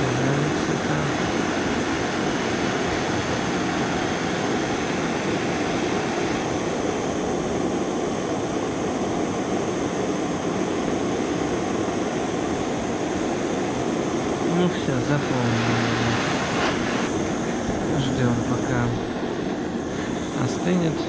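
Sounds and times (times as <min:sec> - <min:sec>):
gas torch flame: 0:00.0 - 0:21.0.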